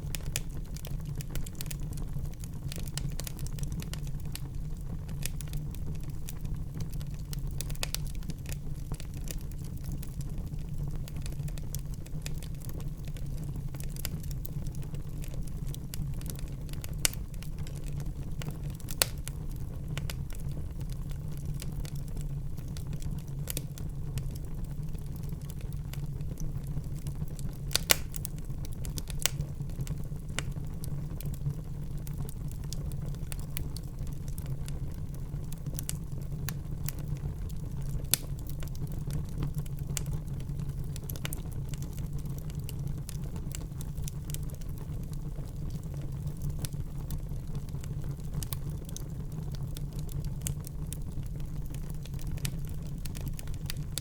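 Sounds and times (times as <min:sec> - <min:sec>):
fire flames rumbling: 0:00.0 - 0:54.0
wood fire crackling and popping: 0:00.0 - 0:54.0.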